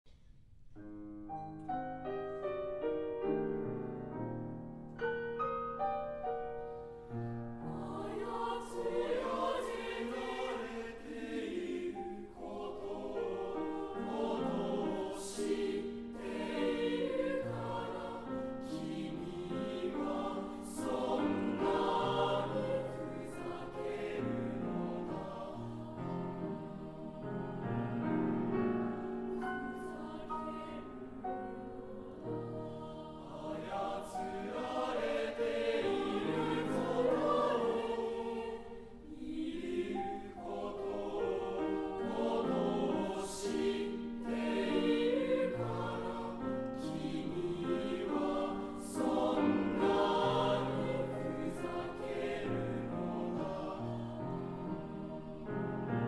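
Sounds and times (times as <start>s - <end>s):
piano accompaniment: 0.8s - 56.0s
choir singing: 6.0s - 56.0s.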